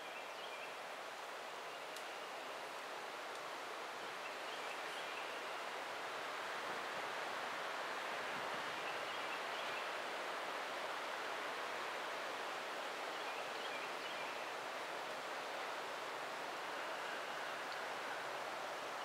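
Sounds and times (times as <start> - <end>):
woodland hiss: 0.0 - 19.0.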